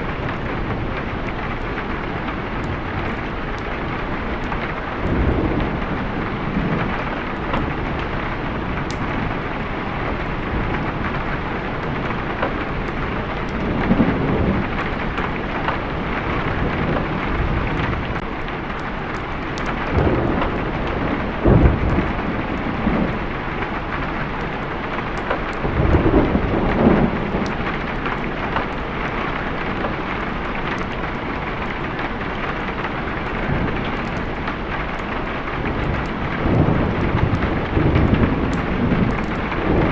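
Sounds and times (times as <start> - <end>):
heavy rain: 0.0 - 39.9
rolling thunder: 0.0 - 39.9.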